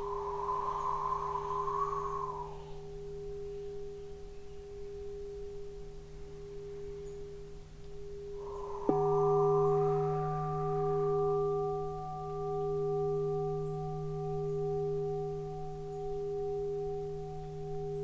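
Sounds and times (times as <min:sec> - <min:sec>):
singing bowl tone: 0:00.0 - 0:18.0.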